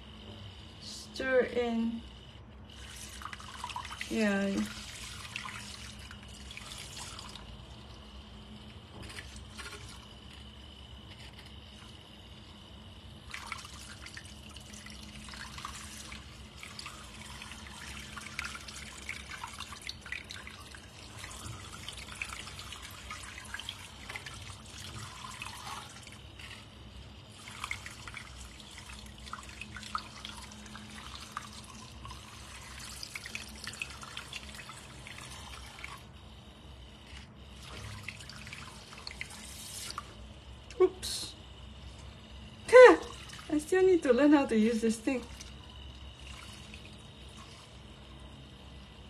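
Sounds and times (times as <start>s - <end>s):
milk frother motor hum: 0.0s - 49.0s.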